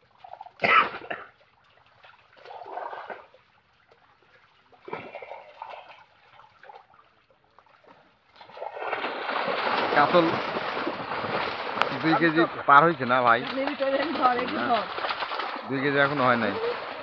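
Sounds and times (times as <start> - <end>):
fish thrashing in water: 0.0 - 17.0.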